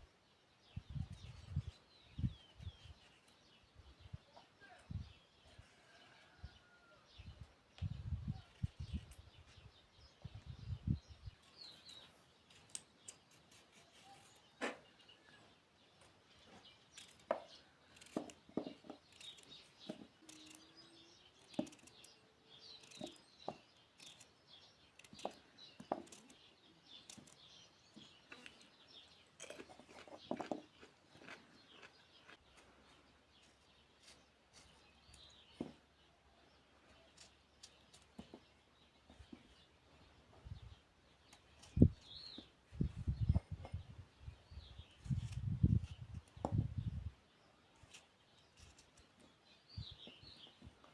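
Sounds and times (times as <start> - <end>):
birds chirping faintly: 0.0 - 50.9.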